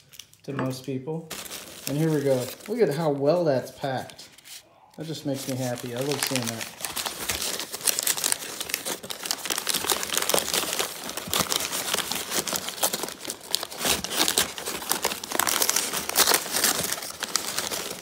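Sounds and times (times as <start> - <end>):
paper and plastic wrap crinkling: 0.0 - 18.0.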